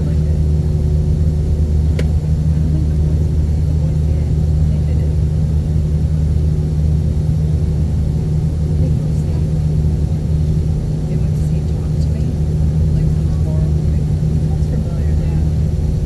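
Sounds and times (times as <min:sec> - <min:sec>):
faint steady hum: 0:00.0 - 0:16.0
jet engine rumble in cabin: 0:00.0 - 0:16.0.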